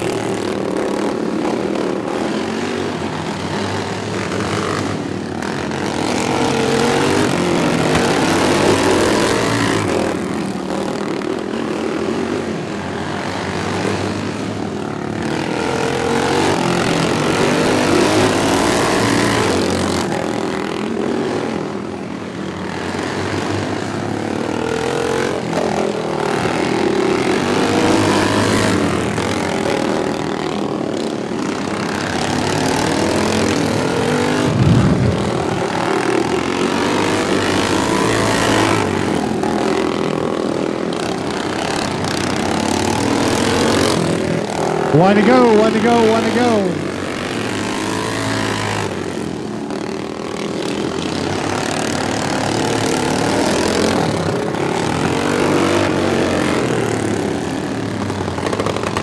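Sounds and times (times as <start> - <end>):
racing lawn mower engines: 0.0 - 59.0.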